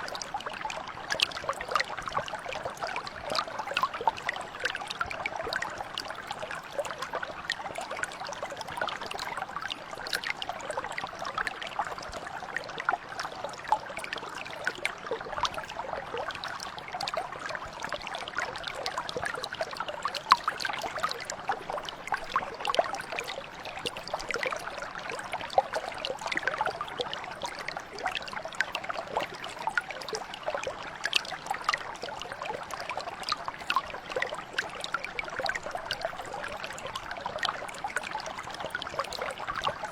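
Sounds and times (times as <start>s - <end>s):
brook flowing over stones: 0.0s - 39.9s.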